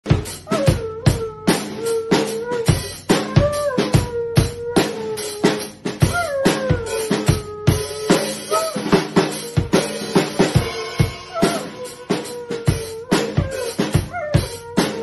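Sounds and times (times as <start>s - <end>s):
drum kit beat: 0.0s - 15.0s
husky howling: 0.5s - 15.0s.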